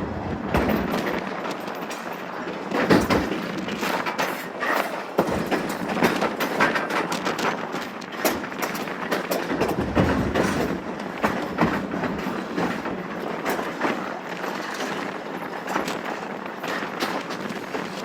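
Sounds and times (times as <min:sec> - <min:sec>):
railroad car rumbling on track: 0:00.0 - 0:18.0
wheels clicking over rails: 0:00.0 - 0:18.0.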